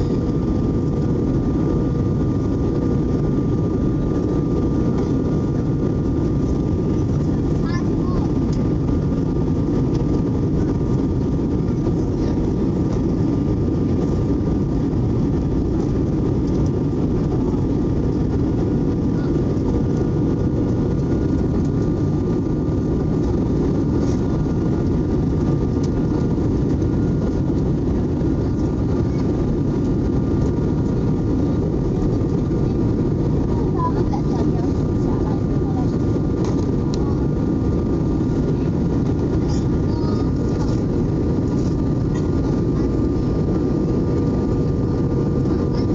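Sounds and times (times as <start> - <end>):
jet engine cabin roar: 0.0 - 45.9.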